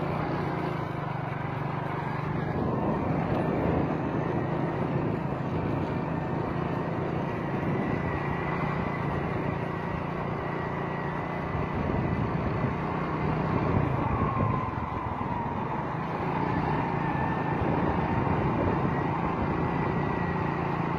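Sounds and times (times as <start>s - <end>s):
road noise on dirt track: 0.0s - 20.9s
vehicle engine running: 0.0s - 20.9s.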